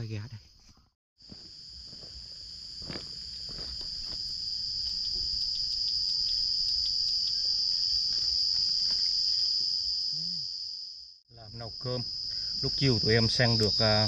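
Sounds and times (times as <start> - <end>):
insects shrilling: 1.3 - 14.0.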